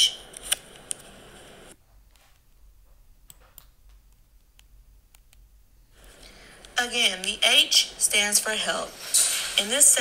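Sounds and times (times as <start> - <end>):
quiet background hiss: 0.0 - 10.0.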